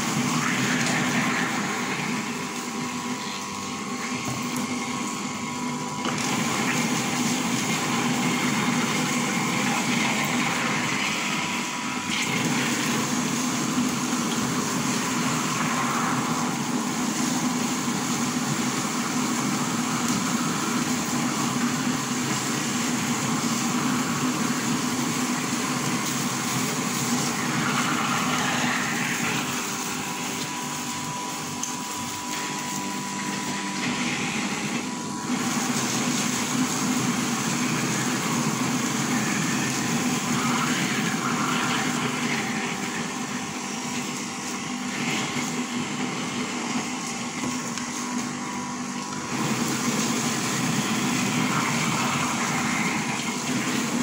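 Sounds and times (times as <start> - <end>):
water pouring: 0.0 - 5.4, 6.1 - 46.7
grinder motor humming: 0.0 - 54.0.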